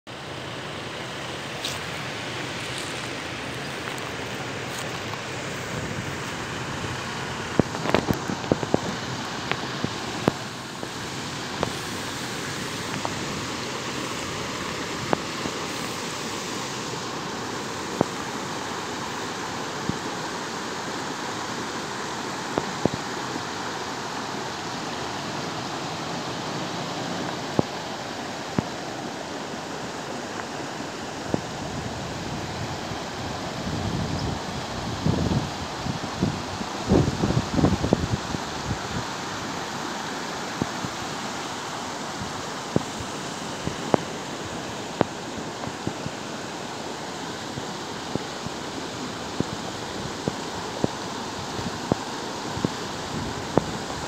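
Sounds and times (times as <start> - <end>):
river water rushing over rocks: 0.1 - 54.0.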